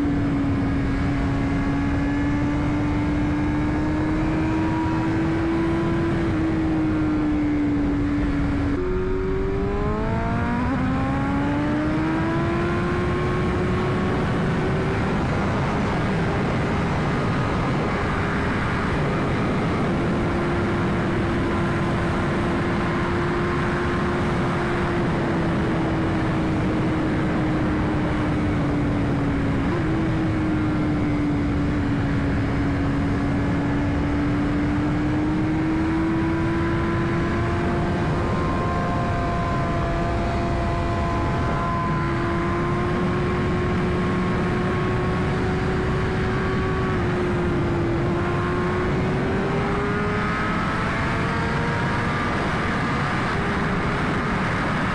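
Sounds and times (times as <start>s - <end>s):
motorcycle engine accelerating: 0.0s - 54.9s
wind and road noise: 0.0s - 54.9s.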